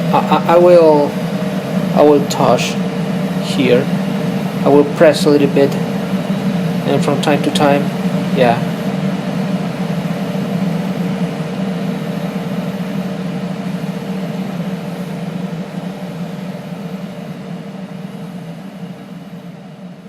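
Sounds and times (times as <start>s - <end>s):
blower fan humming: 0.0s - 20.0s
steady high tone: 0.0s - 20.0s.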